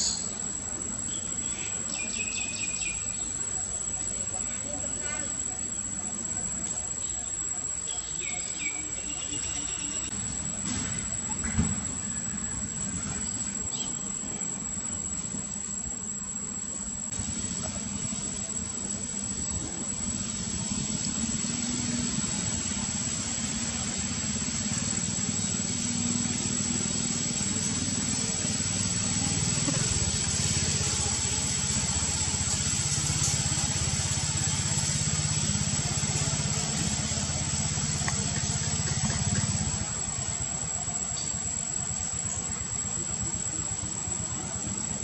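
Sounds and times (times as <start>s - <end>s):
engine humming: 0.0s - 45.0s
high hiss: 0.0s - 45.0s.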